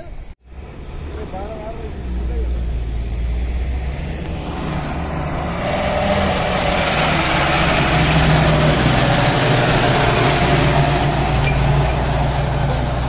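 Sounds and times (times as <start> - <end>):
diesel truck engine passing: 0.4 - 13.0.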